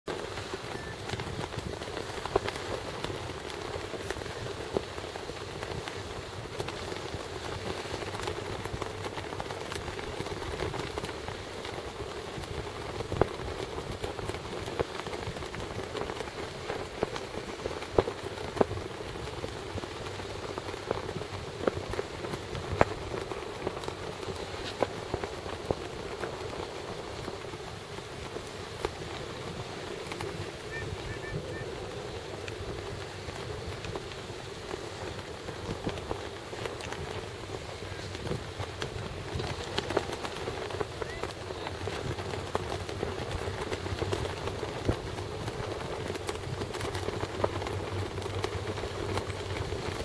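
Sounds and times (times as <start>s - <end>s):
short crackles and pops: 0.1s - 50.0s
wind on microphone: 0.1s - 50.0s.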